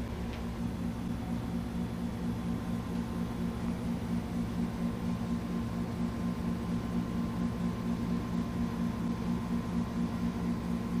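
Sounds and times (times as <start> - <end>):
pulsing low mechanical hum: 0.0 - 11.0.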